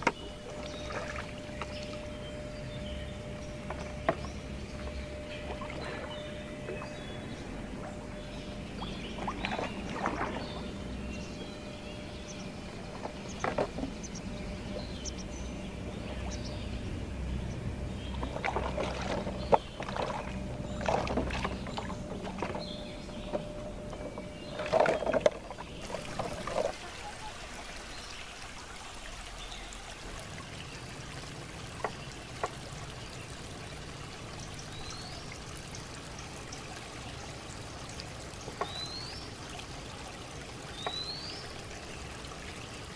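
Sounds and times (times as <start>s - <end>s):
water sloshing and splashing: 0.0s - 42.9s.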